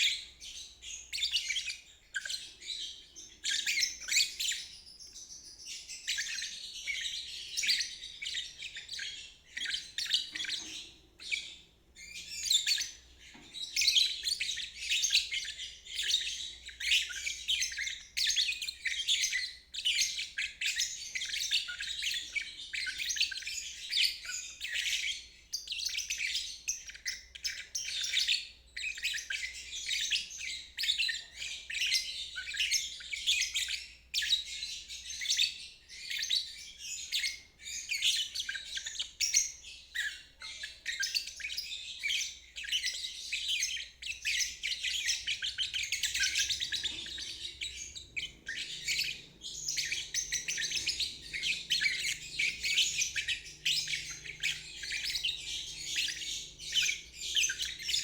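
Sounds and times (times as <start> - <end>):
lovebird chattering and chirping: 0.0 - 58.0.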